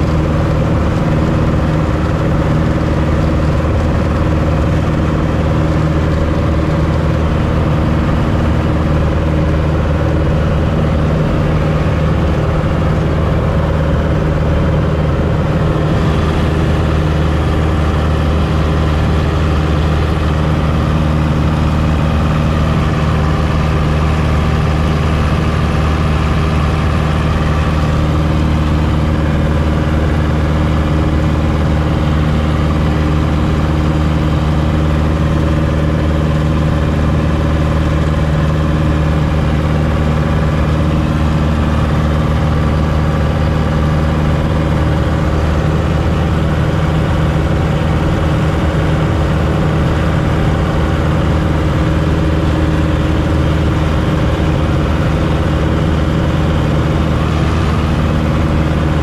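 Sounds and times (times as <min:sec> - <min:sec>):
light airplane engine and propeller: 0:00.0 - 0:59.0.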